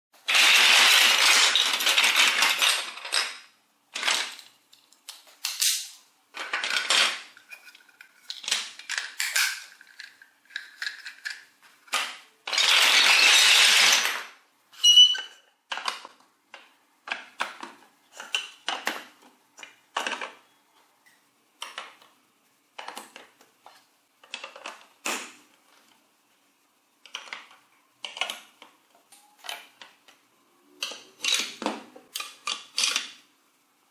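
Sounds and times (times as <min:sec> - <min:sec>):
plastic blocks clattering: 0:00.2 - 0:20.5, 0:21.6 - 0:26.1, 0:27.0 - 0:33.3.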